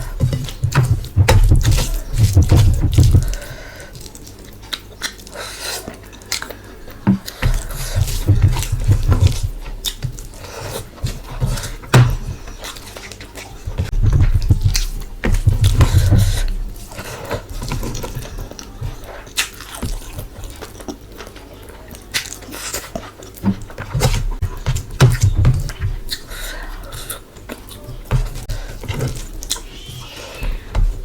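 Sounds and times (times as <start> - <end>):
person chewing food: 0.0 - 31.0.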